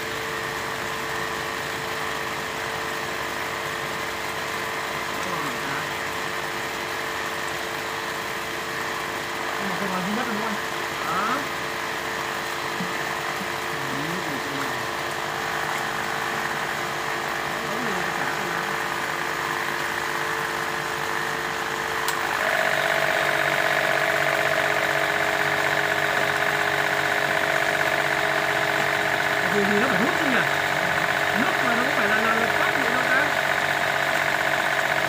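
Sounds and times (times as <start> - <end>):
machine motor humming: 0.0 - 35.0.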